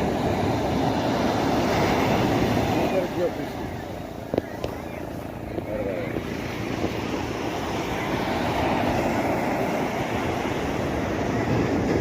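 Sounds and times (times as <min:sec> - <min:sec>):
sea water rushing: 0:00.0 - 0:12.0.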